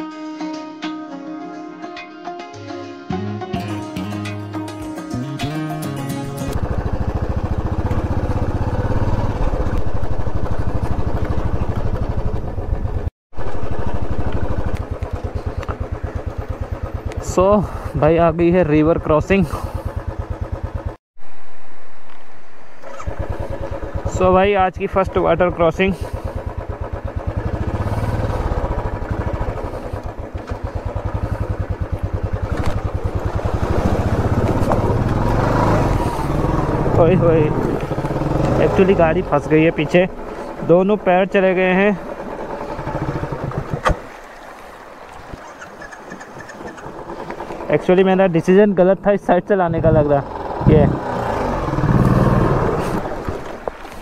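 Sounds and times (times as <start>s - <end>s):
motorcycle engine running: 5.1s - 21.0s, 22.8s - 54.0s.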